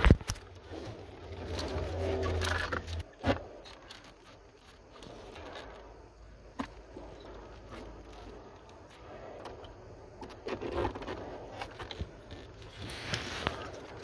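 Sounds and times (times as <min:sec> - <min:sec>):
faint rustling of wires: 0:00.0 - 0:14.0
low hum: 0:00.0 - 0:14.0.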